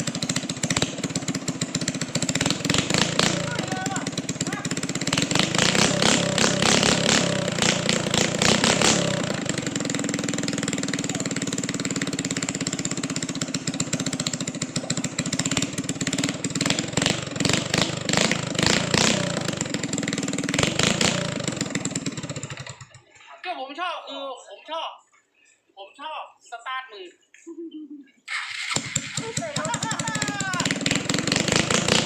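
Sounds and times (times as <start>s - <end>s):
motorcycle engine idling and revving: 0.0s - 23.2s, 28.3s - 32.0s.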